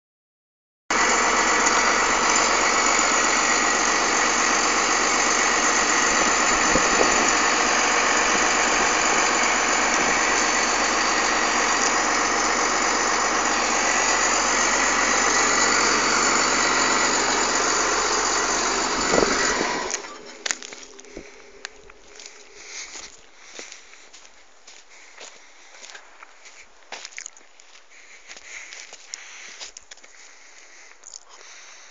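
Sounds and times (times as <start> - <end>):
diesel engine idling: 0.9 - 31.9.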